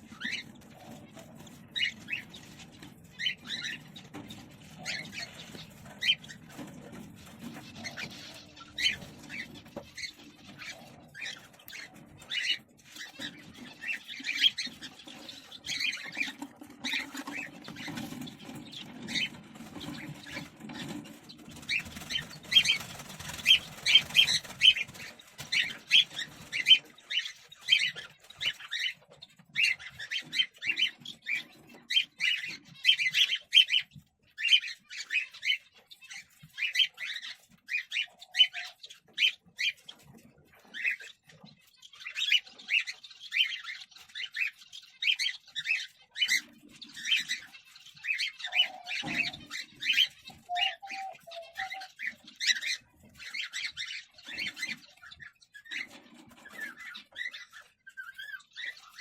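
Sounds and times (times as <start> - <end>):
cockatiels chirping: 0.0 - 59.0.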